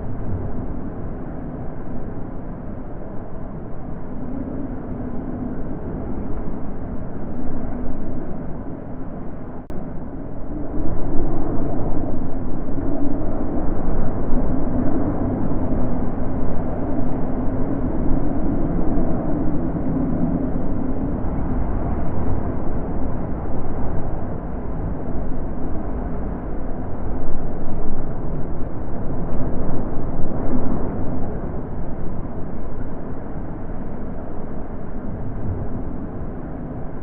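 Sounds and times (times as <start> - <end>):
wind blowing in gusts: 0.0 - 37.0.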